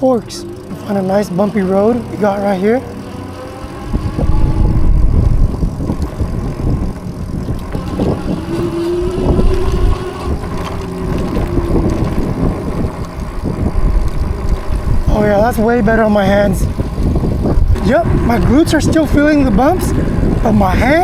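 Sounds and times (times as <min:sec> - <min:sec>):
tyre rumble on bumpy road: 0:00.0 - 0:21.0
wind buffeting microphone: 0:00.0 - 0:21.0
bike knocks and rattles: 0:03.7 - 0:21.0.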